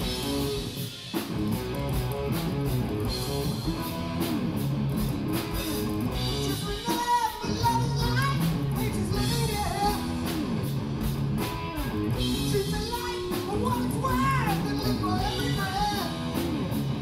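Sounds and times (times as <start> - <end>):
drum kit: 0.0 - 17.0
electric guitars: 0.0 - 17.0.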